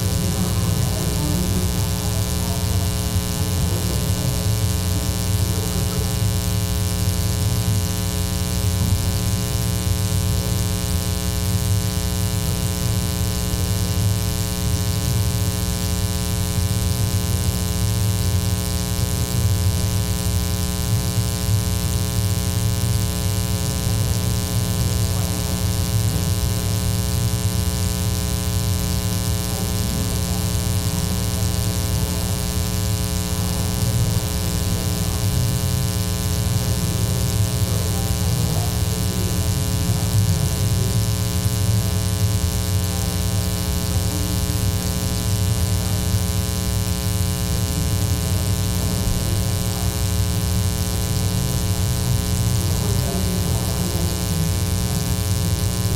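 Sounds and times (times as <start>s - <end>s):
electrical mains hum: 0.0s - 55.9s
faint voices: 0.0s - 55.9s.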